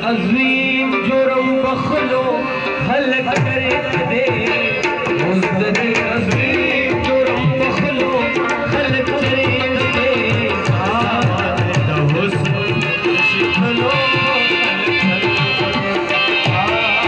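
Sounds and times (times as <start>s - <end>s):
harmonium melody: 0.0s - 17.0s
tabla rhythm: 0.0s - 17.0s.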